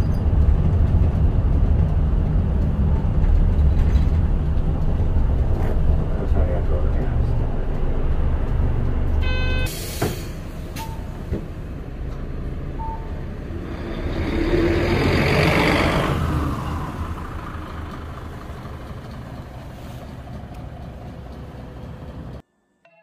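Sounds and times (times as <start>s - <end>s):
bus driving past: 0.0s - 22.4s.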